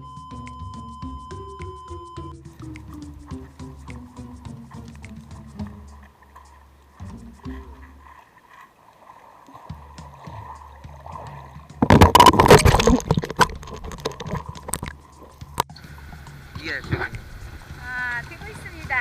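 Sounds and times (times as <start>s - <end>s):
muffled underwater water noise: 1.3s - 19.0s
splashing and bubbling: 2.2s - 19.0s.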